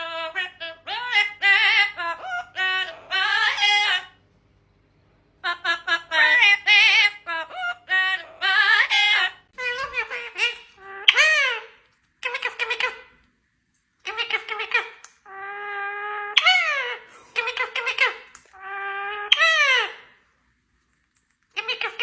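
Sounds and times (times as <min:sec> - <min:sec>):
parrot warbling: 0:00.0 - 0:04.2, 0:05.4 - 0:13.2, 0:14.0 - 0:20.2, 0:21.6 - 0:22.0.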